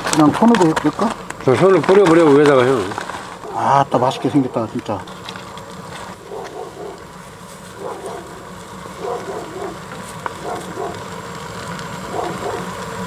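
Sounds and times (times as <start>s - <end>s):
gas burner hum: 0.0s - 13.0s.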